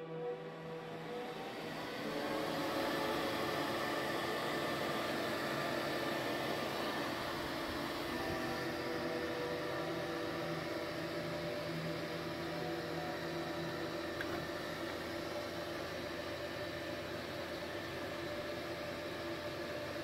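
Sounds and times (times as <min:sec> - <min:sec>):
welder cooling fan whirring: 0:00.0 - 0:20.0.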